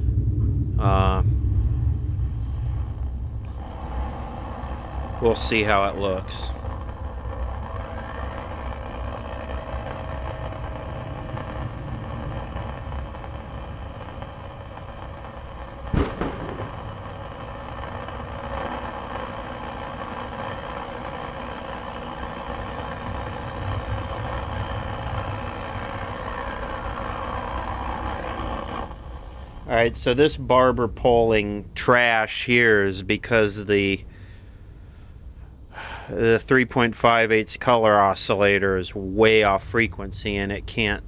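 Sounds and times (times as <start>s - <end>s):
low rumble with hiss: 0.0s - 41.0s.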